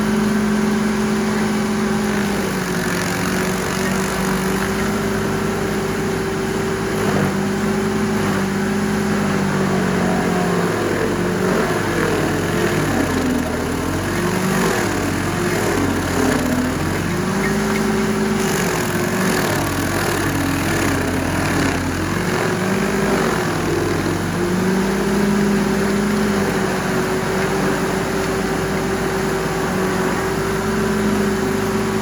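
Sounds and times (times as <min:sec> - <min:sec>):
stump grinder engine running hard: 0:00.0 - 0:32.0.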